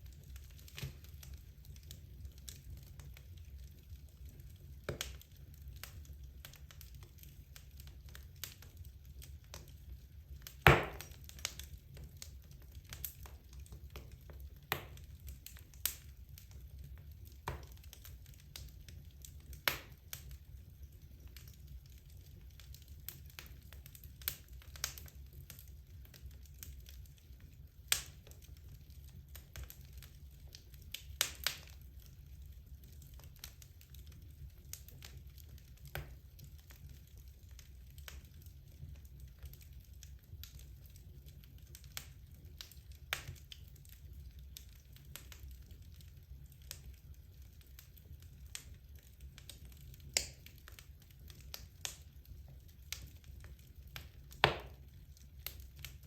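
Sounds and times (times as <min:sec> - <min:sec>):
logs crackling in a fireplace: 0:00.0 - 0:56.0
low rumble of fire: 0:00.0 - 0:56.0.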